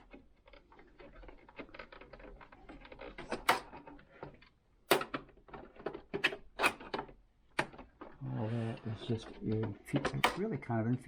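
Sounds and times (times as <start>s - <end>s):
plastic clicks and creaks: 0.0s - 8.2s, 8.8s - 11.0s.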